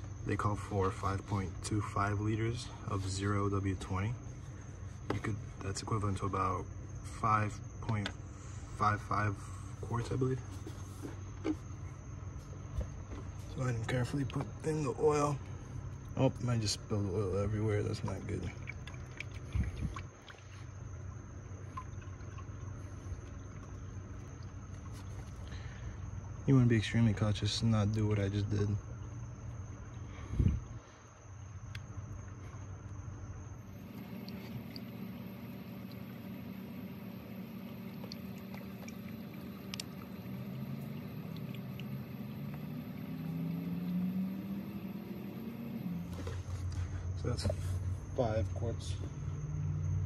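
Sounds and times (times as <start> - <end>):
oil pouring through a funnel: 0.0 - 48.9
steady low hum: 0.0 - 50.0.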